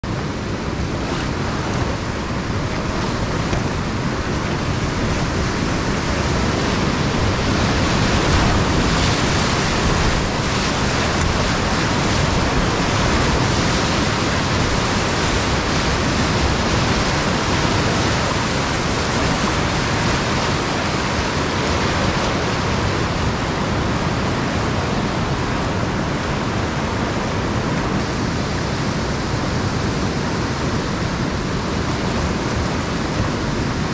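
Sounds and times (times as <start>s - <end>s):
whitewater rapids rushing: 0.0s - 33.9s.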